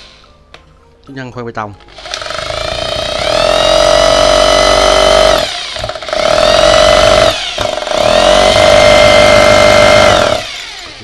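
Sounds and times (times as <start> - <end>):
hammer drill motor whine: 1.9 - 11.0.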